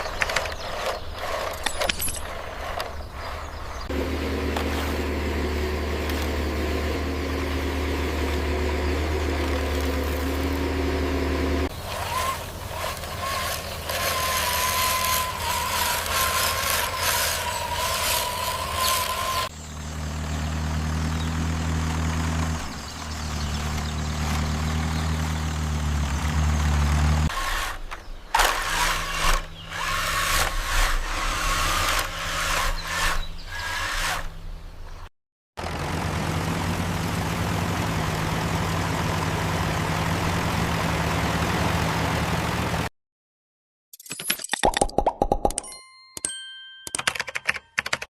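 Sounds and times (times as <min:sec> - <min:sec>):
diesel engine hum: 0:00.0 - 0:35.0, 0:35.6 - 0:42.9.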